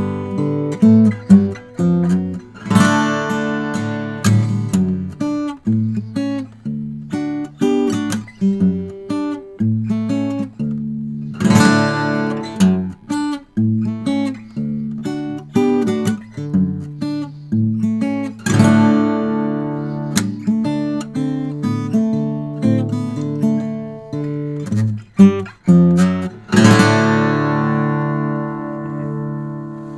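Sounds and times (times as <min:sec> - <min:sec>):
fingerstyle acoustic guitar: 0:00.0 - 0:29.9.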